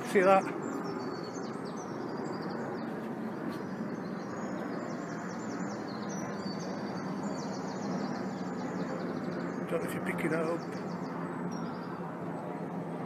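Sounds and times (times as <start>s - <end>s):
bird chirping: 0.0s - 12.1s.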